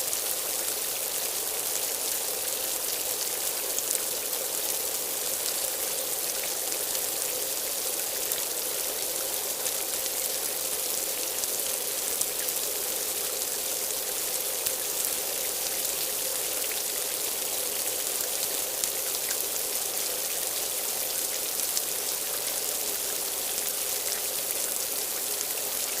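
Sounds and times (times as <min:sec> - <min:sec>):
steady rain hiss: 0:00.0 - 0:26.0.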